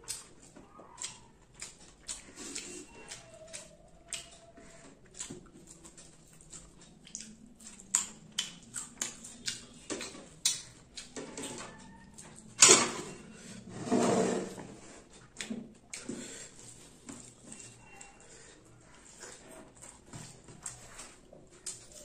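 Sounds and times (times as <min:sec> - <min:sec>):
wet chewing and lip smacks: 0:00.0 - 0:12.6, 0:15.2 - 0:22.0.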